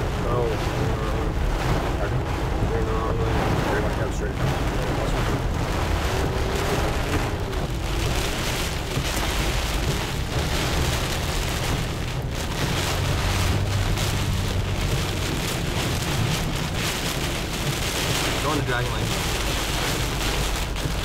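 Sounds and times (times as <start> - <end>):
low rumble: 0.0 - 21.0
rain beating on car windshield: 0.0 - 21.0.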